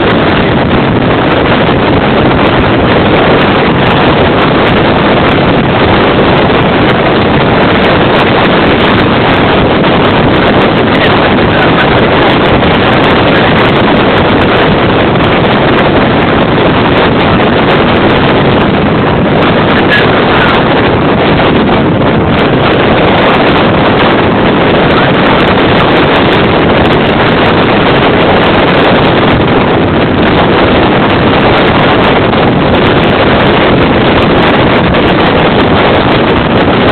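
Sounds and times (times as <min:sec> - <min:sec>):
strong wind on microphone: 0:00.0 - 0:36.9.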